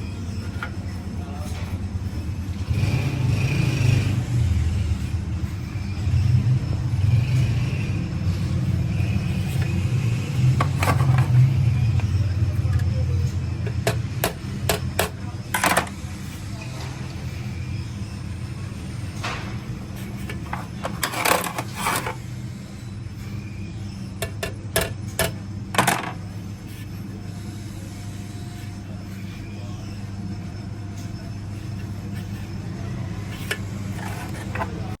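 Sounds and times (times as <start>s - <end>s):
workshop machinery rumbling: 0.0s - 35.0s.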